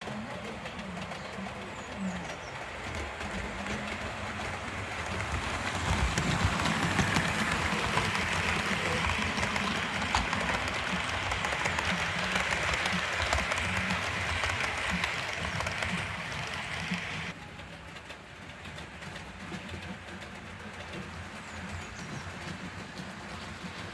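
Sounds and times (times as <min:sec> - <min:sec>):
model train running rumble: 0:00.0 - 0:23.9
wheels clicking on rails: 0:00.0 - 0:23.9.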